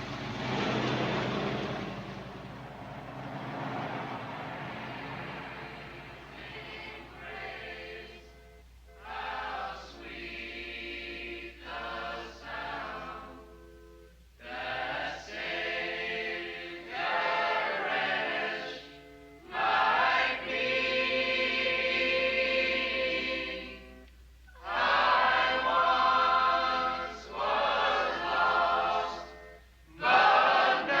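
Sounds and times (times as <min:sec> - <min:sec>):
faint low hum: 0:00.0 - 0:31.0
choir singing: 0:00.8 - 0:13.8, 0:14.4 - 0:31.0.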